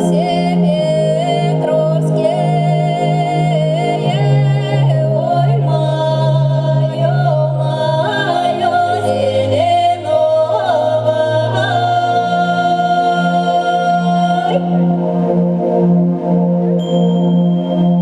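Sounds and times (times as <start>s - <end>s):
voices singing a folk song: 0.0s - 14.9s.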